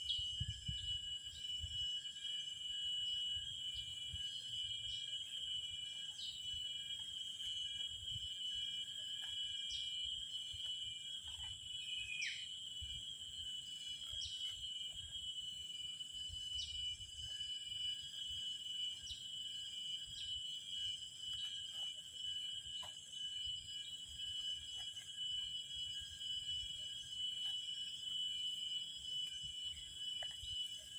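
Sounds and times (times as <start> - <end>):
high-pitched insect chorus: 0.0 - 30.9
short insect chirps: 0.0 - 30.9.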